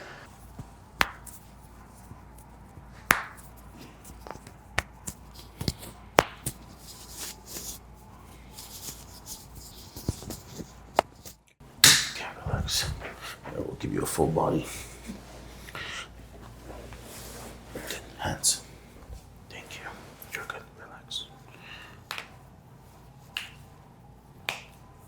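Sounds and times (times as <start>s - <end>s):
rustling of hands and clothing: 0.2s - 11.4s, 12.2s - 25.0s.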